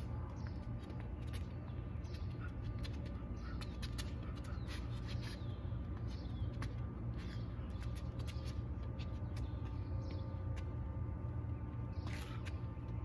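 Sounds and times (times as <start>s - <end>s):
sneakers scuffing on asphalt: 0.0s - 10.8s, 11.7s - 13.0s
birds chirping: 0.0s - 13.0s
steady low rumble: 0.0s - 13.0s.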